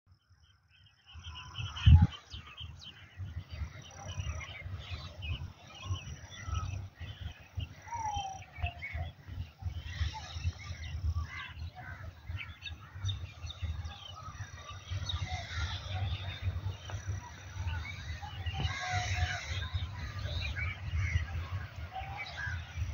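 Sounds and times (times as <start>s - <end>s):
small birds chirping: 0.2s - 22.9s
low rumble: 1.2s - 22.9s.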